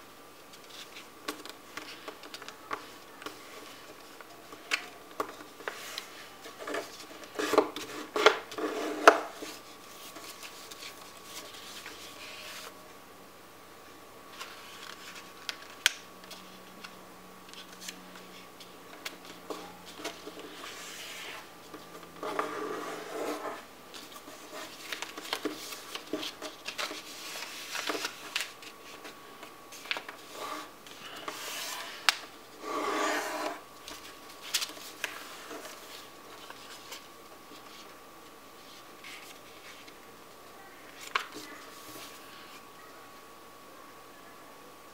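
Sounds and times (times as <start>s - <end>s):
paper rustling: 0.5s - 12.8s, 14.3s - 16.9s, 17.5s - 38.0s, 38.6s - 40.0s.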